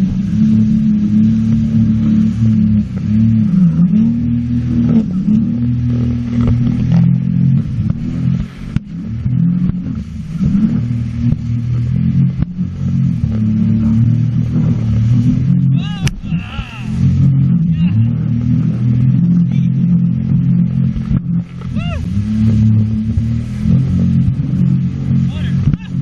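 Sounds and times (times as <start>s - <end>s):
jet ski engine running: 0.0s - 26.0s.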